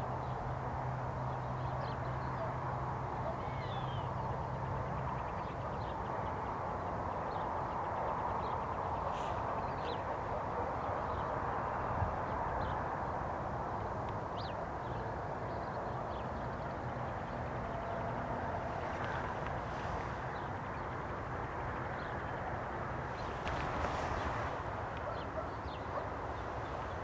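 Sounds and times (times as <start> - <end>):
birds chirping: 1.2 - 13.0, 13.6 - 27.0.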